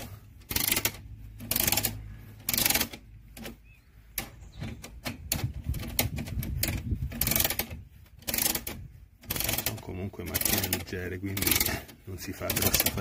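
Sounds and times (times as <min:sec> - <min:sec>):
ratchet wrench clicking: 0:00.0 - 0:13.0.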